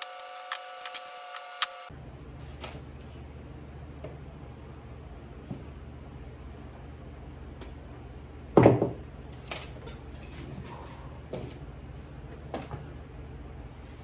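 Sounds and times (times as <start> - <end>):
low steady hum: 1.9 - 14.0.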